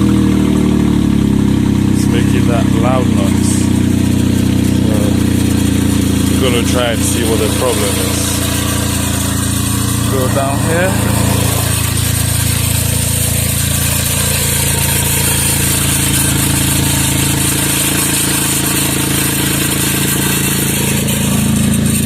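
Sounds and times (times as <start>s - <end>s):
engine idling with exhaust drone: 0.0s - 22.0s.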